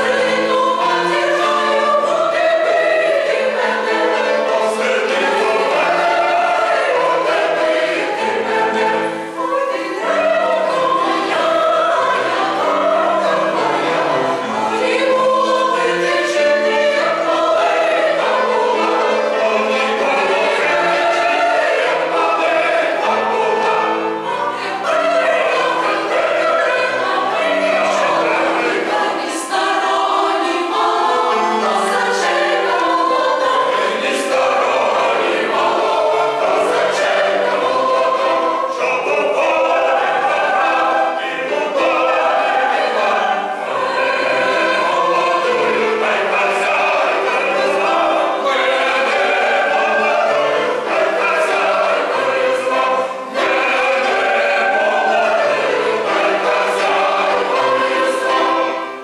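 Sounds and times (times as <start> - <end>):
mixed choir singing folk song: 0.0 - 59.0.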